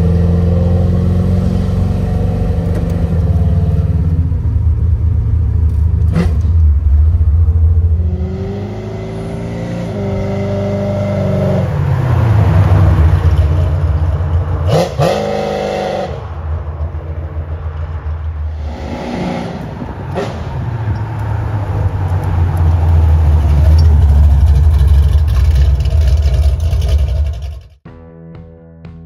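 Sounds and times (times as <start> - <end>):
car engine revving: 0.0 - 27.8.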